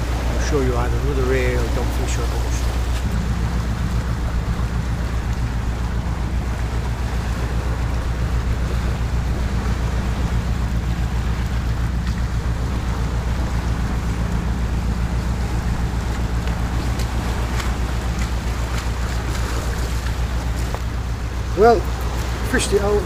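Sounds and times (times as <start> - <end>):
waves washing against rocks: 0.0 - 23.0
wind buffeting microphone: 0.0 - 23.0.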